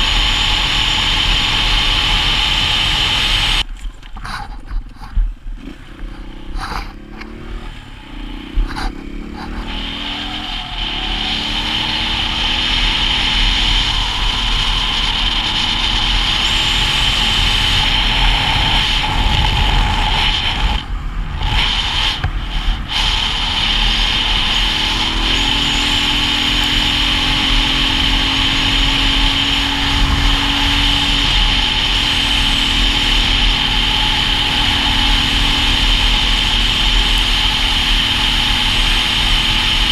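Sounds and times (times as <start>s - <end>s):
motorcycle engine accelerating: 0.0s - 3.7s, 5.5s - 39.9s
wind rush on microphone: 7.7s - 39.9s.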